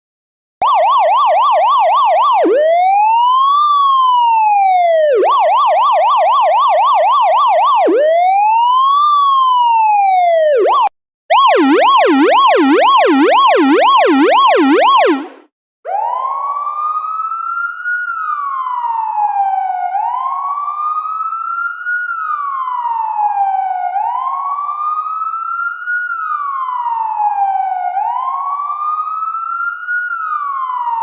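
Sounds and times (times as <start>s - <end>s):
low slow siren warble: 0.6s - 31.0s
police siren yelp and wail: 0.6s - 31.0s.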